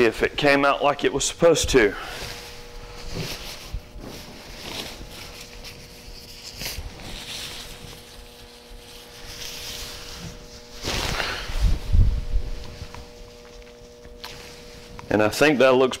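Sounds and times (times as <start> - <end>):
faint steady hum: 0.0 - 16.0
nylon fabric rustling: 2.1 - 15.2.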